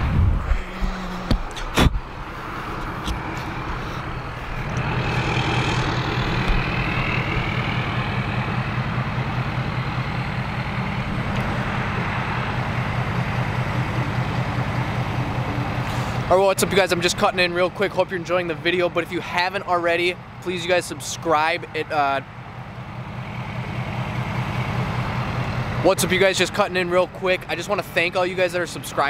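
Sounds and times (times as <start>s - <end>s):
truck engine idling: 0.4s - 29.0s.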